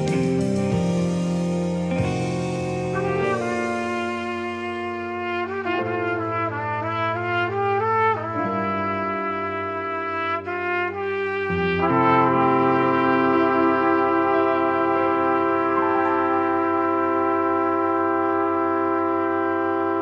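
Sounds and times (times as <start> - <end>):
backing track: 0.0 - 20.0
trumpets playing in harmony: 0.0 - 20.0.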